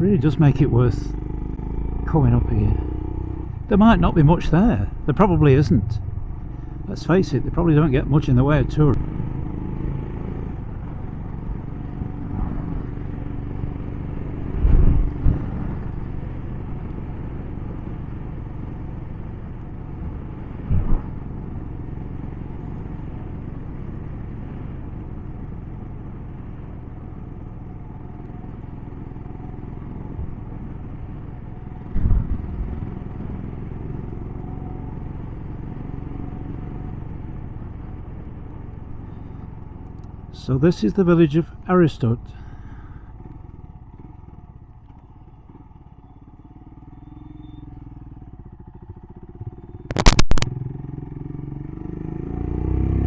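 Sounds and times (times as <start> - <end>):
motorcycle engine running: 0.0 - 40.5, 41.4 - 53.0.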